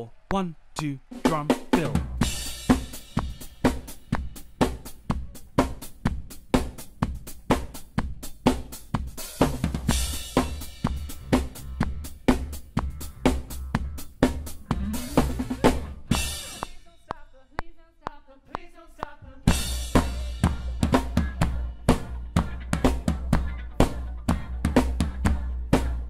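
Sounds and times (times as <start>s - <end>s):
drum kit playing: 1.1s - 16.8s, 19.5s - 26.0s.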